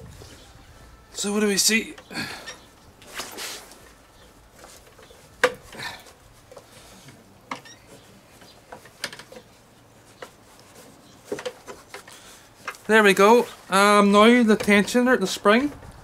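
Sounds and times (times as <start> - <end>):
light rubbing: 0.0 - 16.0.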